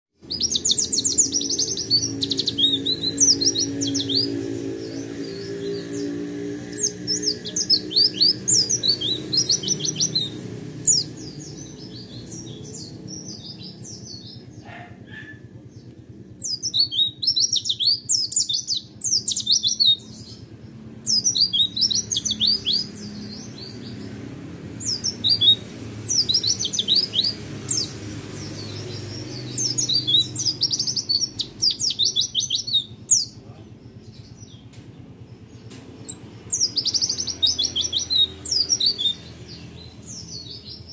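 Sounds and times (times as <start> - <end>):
bird twittering rapidly: 0.2 - 34.7, 35.4 - 40.9.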